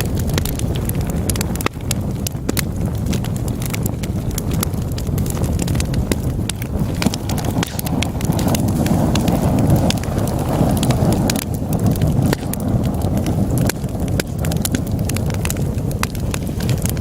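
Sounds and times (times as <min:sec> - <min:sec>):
fire low rumble: 0:00.0 - 0:17.0
logs crackling and popping: 0:00.0 - 0:17.0.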